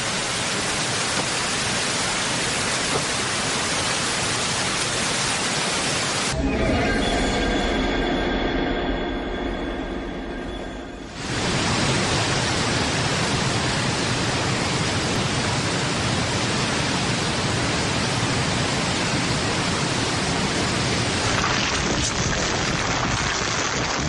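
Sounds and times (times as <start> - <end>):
heavy rain falling: 0.0 - 6.4, 11.1 - 24.0.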